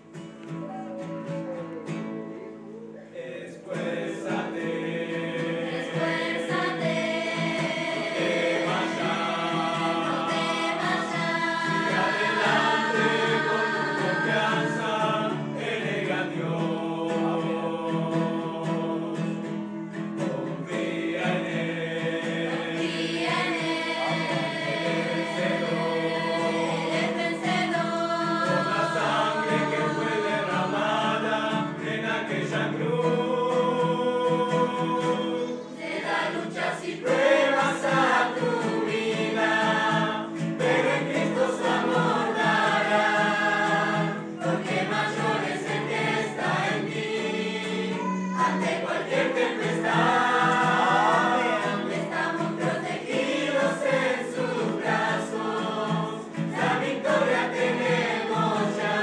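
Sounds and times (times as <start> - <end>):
acoustic guitar: 0.0 - 59.0
choir singing: 0.0 - 59.0.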